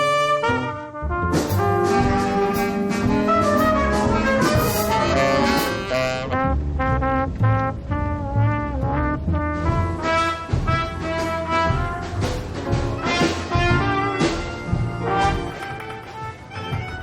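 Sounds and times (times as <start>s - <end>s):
jazzy brass band music: 0.0s - 17.0s.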